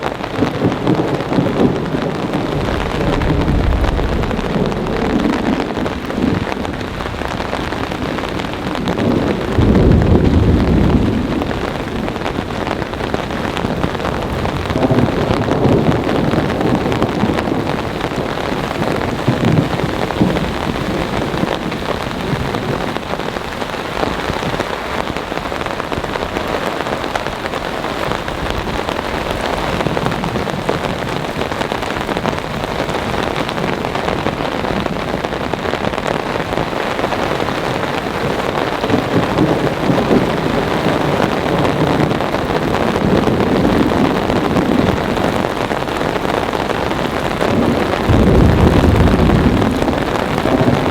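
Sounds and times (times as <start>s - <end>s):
heavy rain falling: 0.0s - 50.9s
rumbling thunder: 0.1s - 50.9s.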